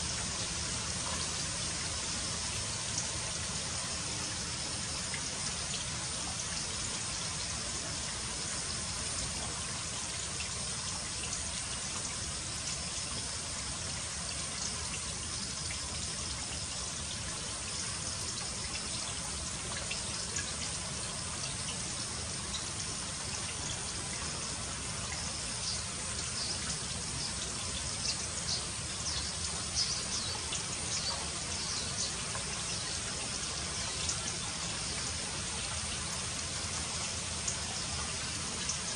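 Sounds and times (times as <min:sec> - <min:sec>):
trickle of running water: 0:00.0 - 0:38.9.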